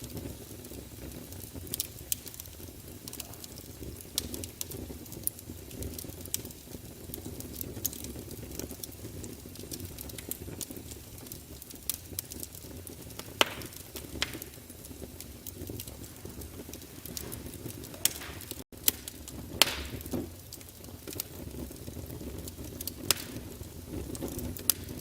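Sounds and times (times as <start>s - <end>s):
fire crackling: 0.0s - 25.0s
sharp pops of fire: 0.0s - 25.0s.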